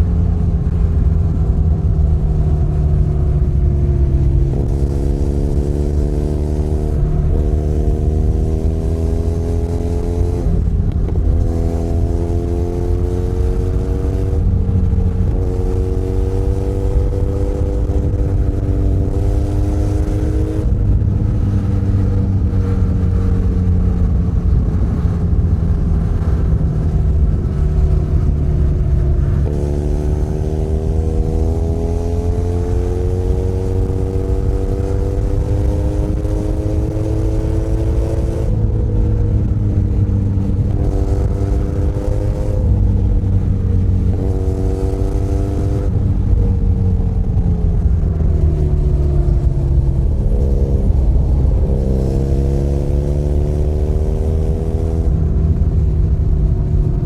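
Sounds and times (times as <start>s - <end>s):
motorcycle engine changing gears: 3.5s - 56.7s.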